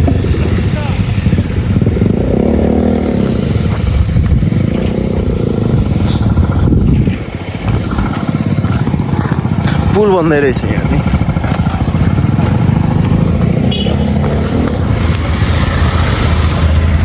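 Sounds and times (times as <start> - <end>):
clatter: 0.0 - 17.0
motorcycle engine running: 0.0 - 17.0
road and wind noise: 0.0 - 17.0.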